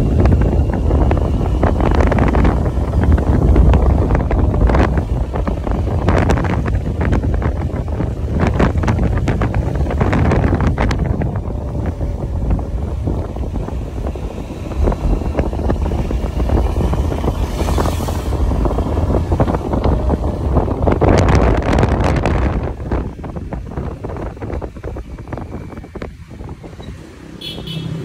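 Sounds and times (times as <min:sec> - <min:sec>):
wind buffeting microphone: 0:00.0 - 0:27.2
road noise: 0:00.0 - 0:28.0.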